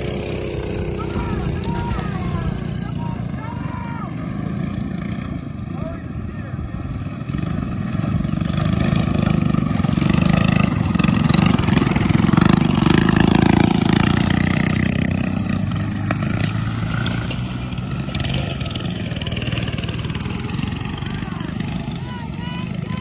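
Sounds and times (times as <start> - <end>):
mini bike engines passing: 0.0 - 23.0.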